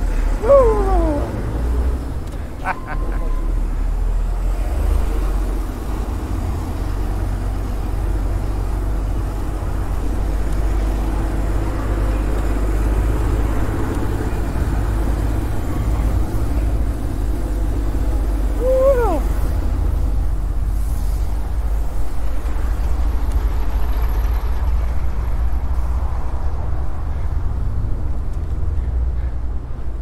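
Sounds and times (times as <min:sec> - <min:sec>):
city traffic: 0:00.0 - 0:30.0.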